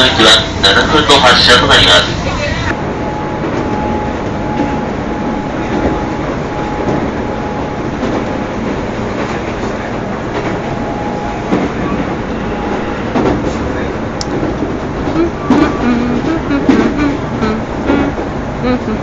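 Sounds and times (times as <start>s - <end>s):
train running on track: 0.0s - 19.0s.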